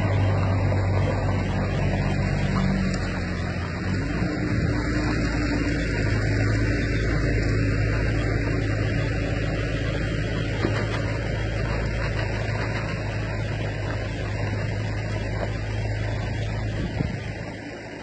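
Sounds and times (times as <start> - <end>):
truck diesel engine rumble: 0.0 - 18.0
tyres rolling: 0.0 - 18.0.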